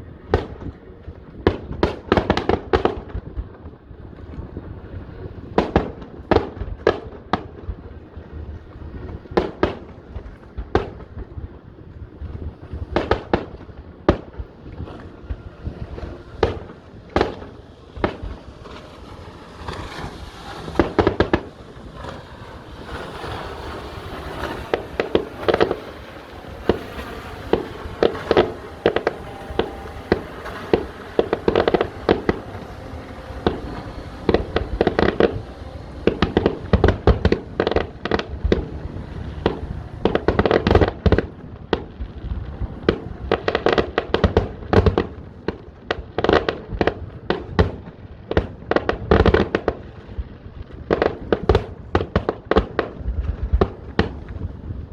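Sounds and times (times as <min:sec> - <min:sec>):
continuous rumble: 0:00.0 - 0:54.9
firework bursts and crackling: 0:00.0 - 0:54.9.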